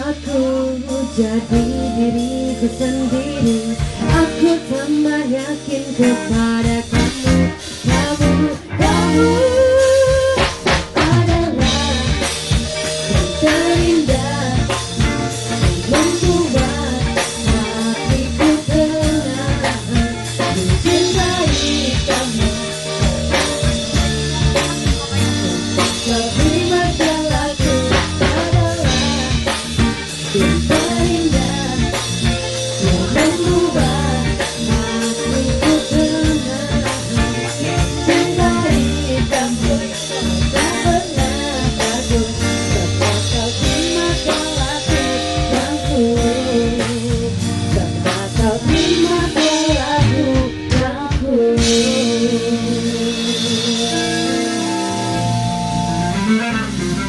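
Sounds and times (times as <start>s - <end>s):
woman singing into microphone: 0.0s - 55.2s
band with drums and guitar: 0.0s - 57.0s.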